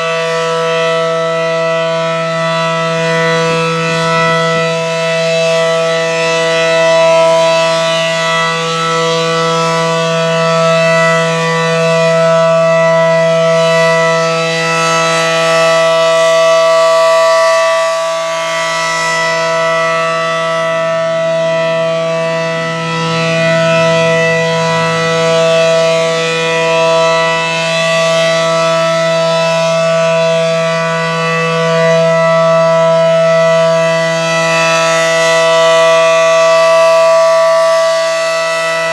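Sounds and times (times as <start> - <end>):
rotating warning siren steady tone: 0.0 - 38.9.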